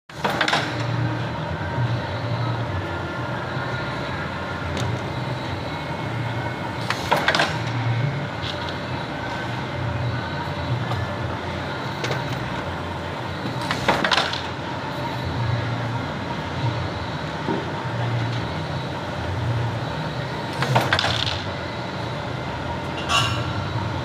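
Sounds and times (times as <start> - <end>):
factory machinery humming: 0.1 - 24.0.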